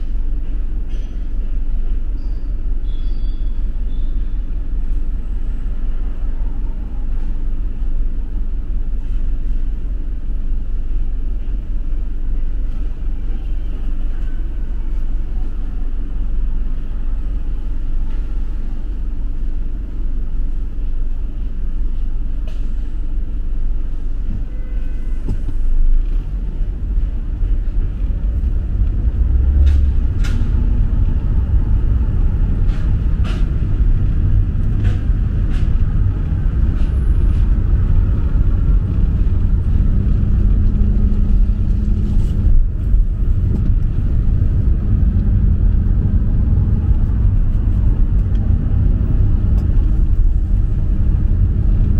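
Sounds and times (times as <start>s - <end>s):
passing cars rumbling: 3.6s - 51.9s.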